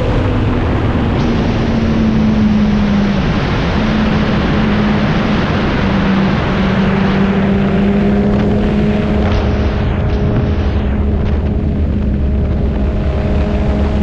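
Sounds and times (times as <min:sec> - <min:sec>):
motorcycle engine cruising: 0:00.0 - 0:14.0
wind rush: 0:00.0 - 0:14.0.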